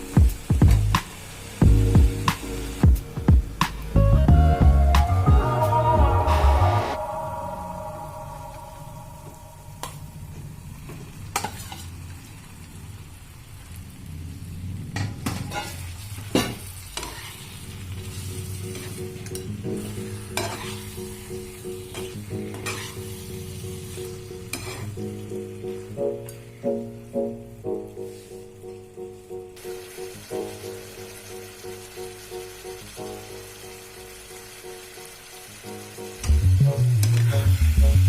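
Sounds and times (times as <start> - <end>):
food sizzling in a pot: 0.0 - 4.0, 6.3 - 38.0.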